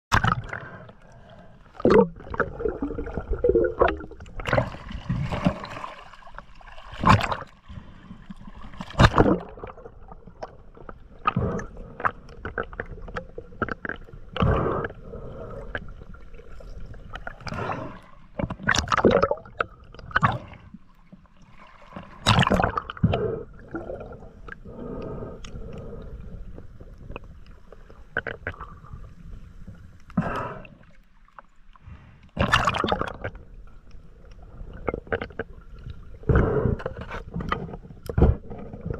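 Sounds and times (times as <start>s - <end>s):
background water wash: 0.1s - 38.9s
water splashing and gurgling: 0.1s - 38.9s.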